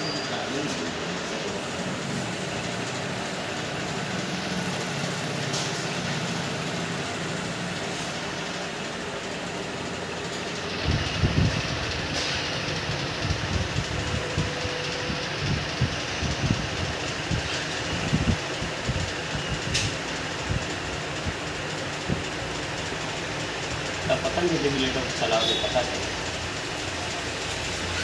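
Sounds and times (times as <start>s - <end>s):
mechanical hum and hiss: 0.0s - 28.0s.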